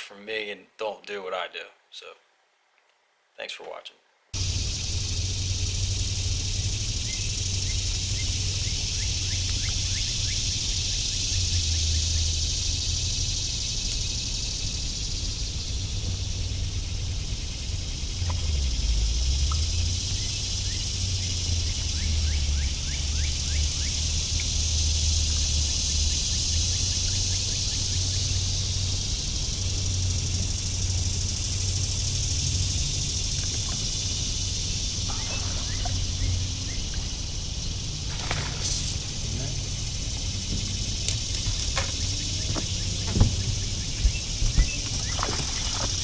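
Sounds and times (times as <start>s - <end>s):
high-pitched insect drone: 4.4s - 46.0s.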